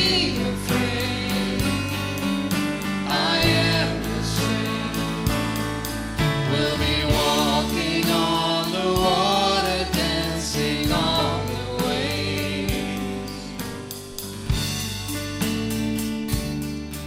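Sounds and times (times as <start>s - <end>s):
group singing: 0.0s - 13.9s
band accompaniment: 0.0s - 17.0s.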